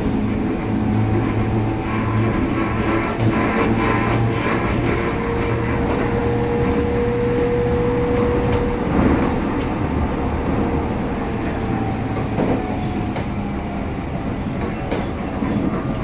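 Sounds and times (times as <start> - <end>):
train motor hum: 0.0 - 16.0
wheel-on-rail rumble: 0.0 - 16.0.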